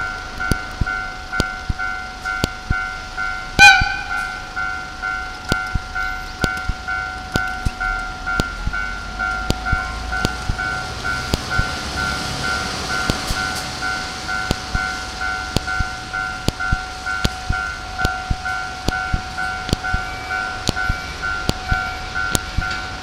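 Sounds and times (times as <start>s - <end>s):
diesel locomotive engine rumble: 0.0s - 23.0s
level crossing warning bell: 0.0s - 23.0s.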